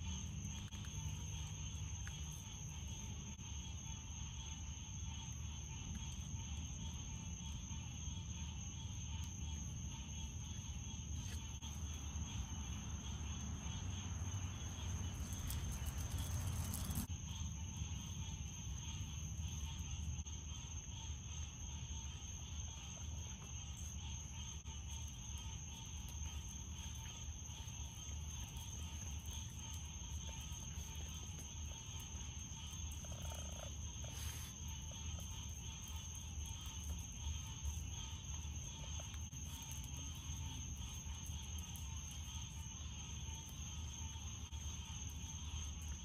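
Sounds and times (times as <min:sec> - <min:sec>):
crickets and insects trilling: 0:00.0 - 0:46.0.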